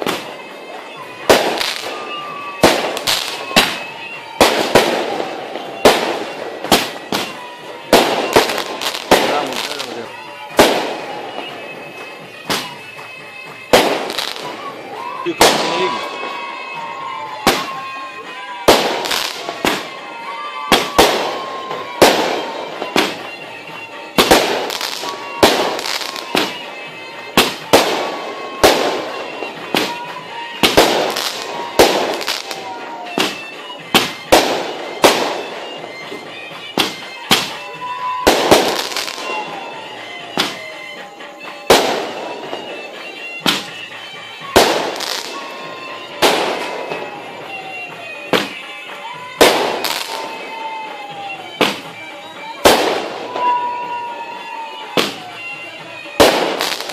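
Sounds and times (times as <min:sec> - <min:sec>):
fireworks bangs: 0:00.0 - 0:56.9.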